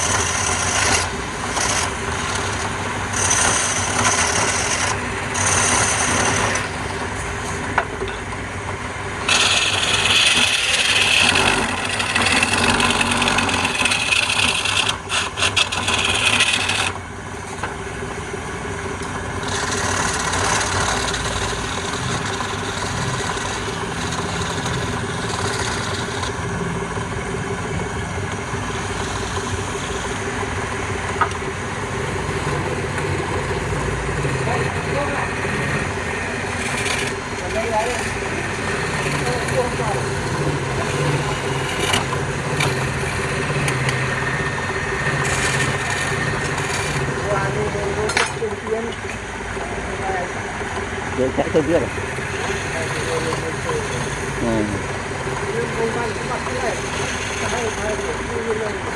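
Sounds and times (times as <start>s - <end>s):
lathe motor humming: 0.0s - 58.9s
tool scraping spinning wood: 0.0s - 58.9s.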